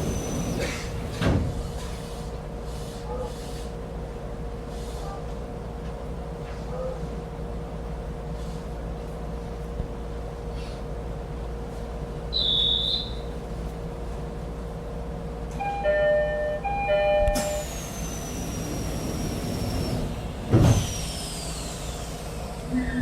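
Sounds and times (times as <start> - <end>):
train car hum: 0.0 - 23.0.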